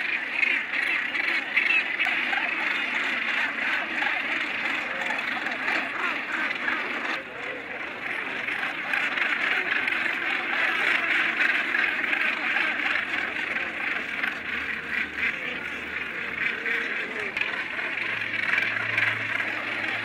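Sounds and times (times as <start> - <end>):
seabird colony calling: 0.0 - 20.0.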